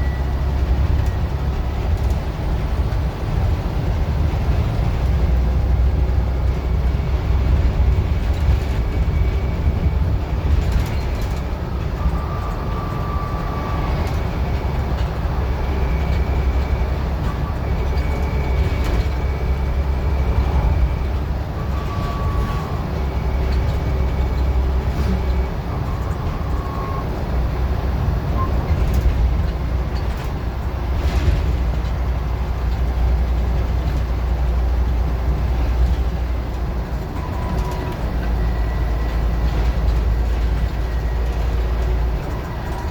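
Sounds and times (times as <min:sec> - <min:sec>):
bus engine drone: 0:00.0 - 0:42.9
rattles and clicks from bus body: 0:00.0 - 0:42.9.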